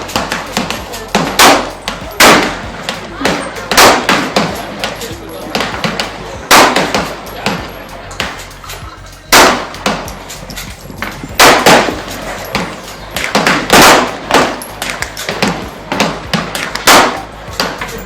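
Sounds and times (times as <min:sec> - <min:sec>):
faint gunshots: 0:00.0 - 0:08.4, 0:09.3 - 0:10.2, 0:11.4 - 0:18.0
gunshots with echo: 0:00.0 - 0:08.4, 0:09.3 - 0:10.4, 0:11.0 - 0:18.0.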